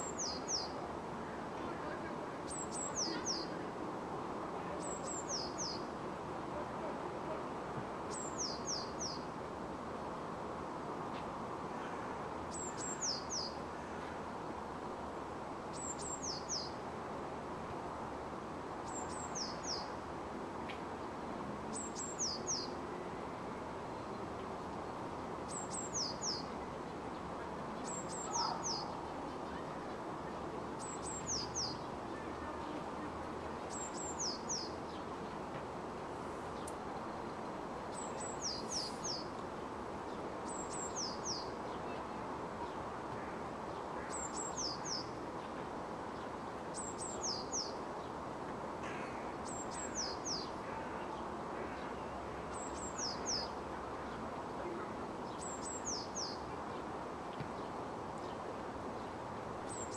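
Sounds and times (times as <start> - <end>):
songbird singing: 0.0 - 3.8, 4.5 - 7.4, 8.0 - 9.4, 11.7 - 14.5, 15.6 - 16.9, 18.8 - 20.1, 20.7 - 59.9.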